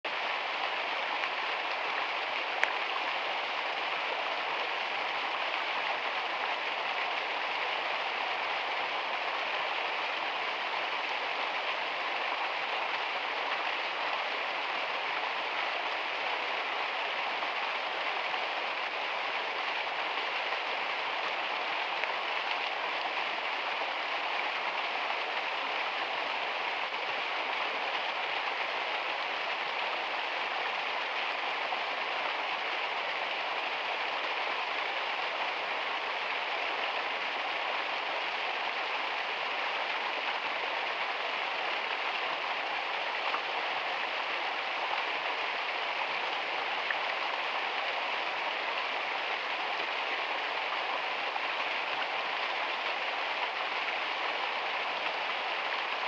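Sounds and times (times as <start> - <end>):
waterfall splashing over rocks: 0.1 - 56.0.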